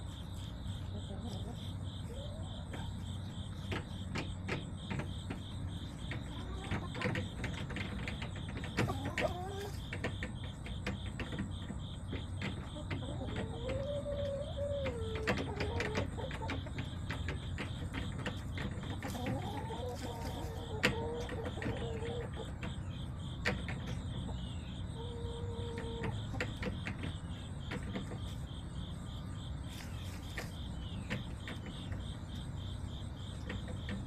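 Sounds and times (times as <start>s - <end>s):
crickets chirping: 0.0s - 34.0s
hens clucking: 0.0s - 34.0s.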